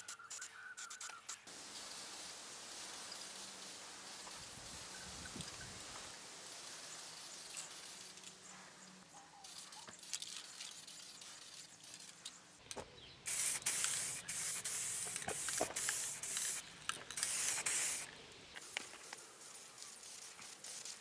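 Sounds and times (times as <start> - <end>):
spray can hissing bursts: 0.0 - 8.4, 9.4 - 12.3, 13.2 - 21.0
faint hiss: 0.0 - 21.0.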